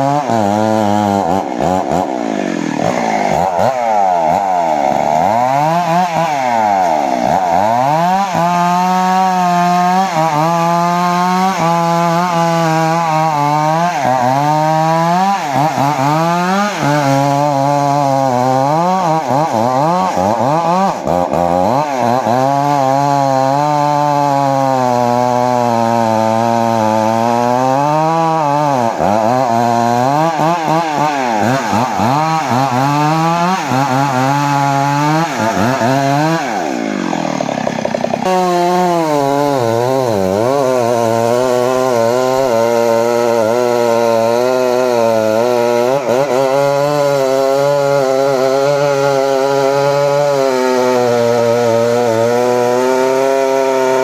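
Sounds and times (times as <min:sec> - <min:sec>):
engine-driven saw cutting wood: 0:00.0 - 0:54.0.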